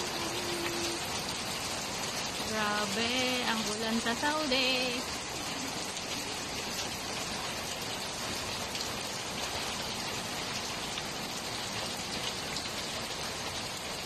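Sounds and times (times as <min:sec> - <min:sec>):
heavy rain on a rooftop: 0:00.0 - 0:14.0.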